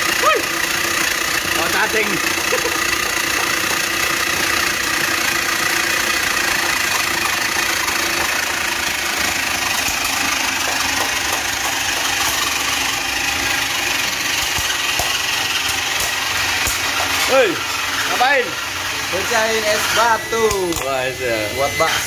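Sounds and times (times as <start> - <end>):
electric meat grinder running: 0.0 - 22.0
machinery hum: 0.0 - 22.0.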